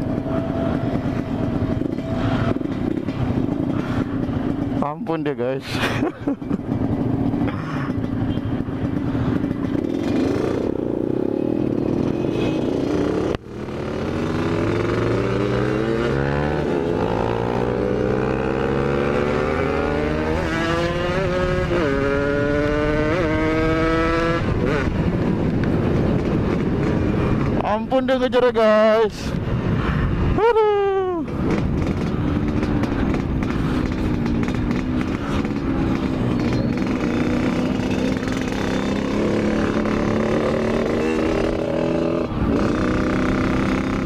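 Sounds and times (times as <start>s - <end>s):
motorcycle engine revving: 0.0s - 4.9s, 6.4s - 27.8s, 31.3s - 44.0s.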